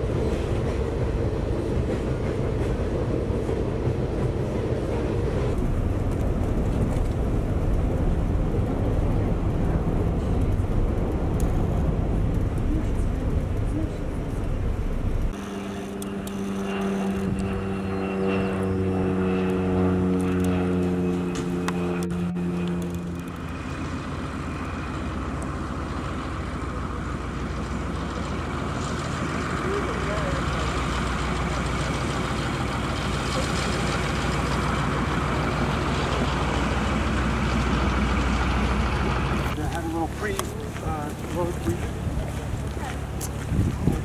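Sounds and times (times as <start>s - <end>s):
propeller plane droning overhead: 0.0s - 44.0s.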